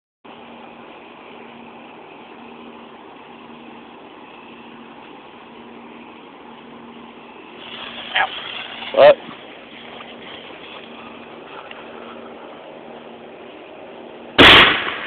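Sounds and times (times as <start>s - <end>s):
mechanical hum: 0.3s - 15.0s.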